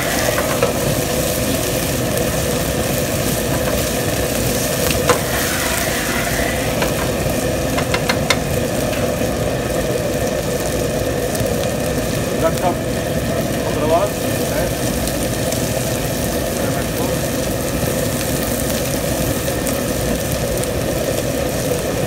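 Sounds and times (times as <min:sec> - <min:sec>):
food stir-frying in a pan: 0:00.0 - 0:22.0
loud steady machine drone: 0:00.0 - 0:22.0.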